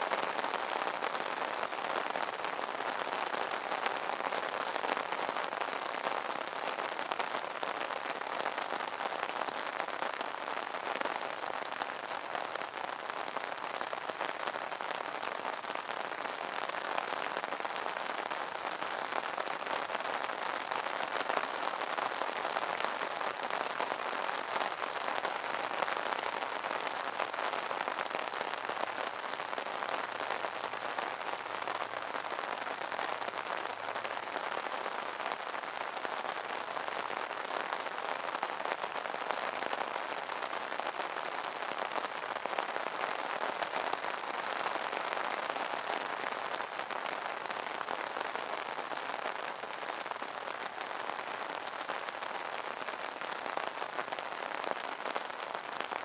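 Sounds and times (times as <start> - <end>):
rain on an umbrella: 0.0 - 56.0.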